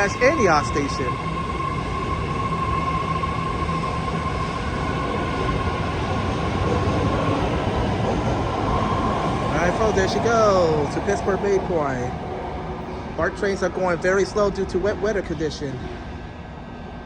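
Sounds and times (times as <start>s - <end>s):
train wheels rumbling on rails: 0.0s - 16.2s
high-pitched train whine: 0.0s - 17.0s.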